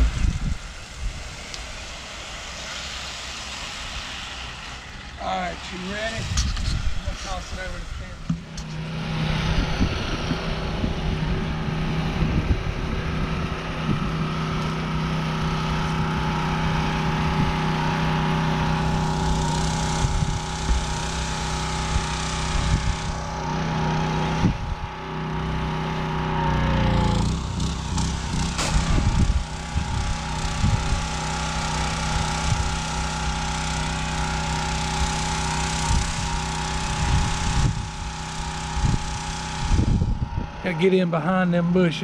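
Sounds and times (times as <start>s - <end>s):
high-pressure water spray hissing: 0.0s - 24.3s, 27.0s - 40.0s
pressure washer engine running: 0.0s - 42.0s.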